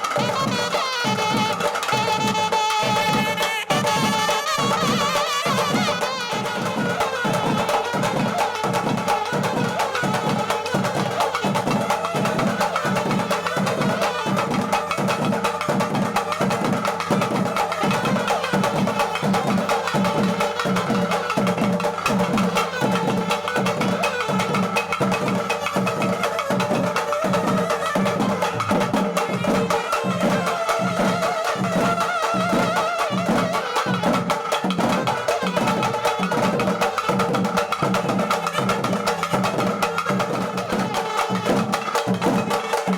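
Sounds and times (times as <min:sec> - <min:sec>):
even drumbeat: 0:00.0 - 0:42.9.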